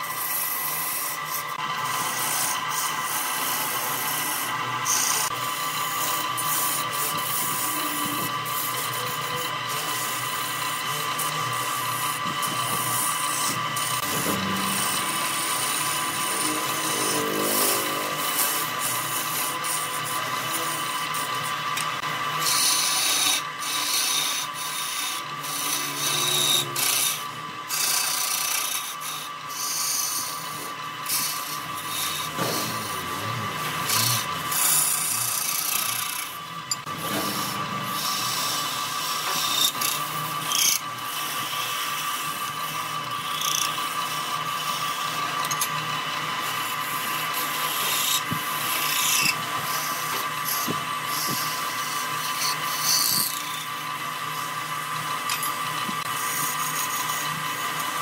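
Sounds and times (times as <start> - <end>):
lathe whining: 0.0 - 58.0
turning tool cutting wood: 0.0 - 58.0.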